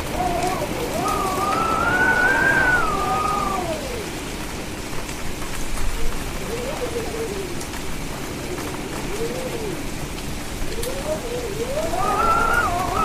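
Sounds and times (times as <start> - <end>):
heavy rain: 0.0 - 13.0
wind howling: 0.0 - 13.0.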